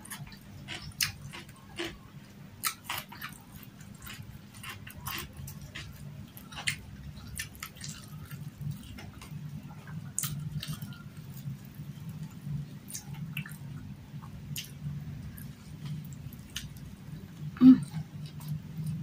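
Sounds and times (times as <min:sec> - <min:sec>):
mouth chewing food: 0:00.0 - 0:16.9
steady low hum: 0:00.0 - 0:19.0.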